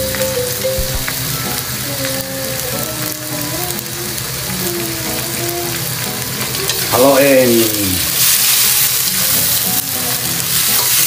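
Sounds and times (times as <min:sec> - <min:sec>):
squid sizzling in oil: 0:00.0 - 0:11.0.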